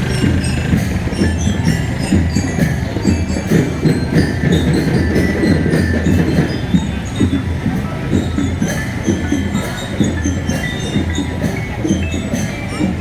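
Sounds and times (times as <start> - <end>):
high melody notes: 0.0 - 13.0
marching drums: 0.0 - 13.0.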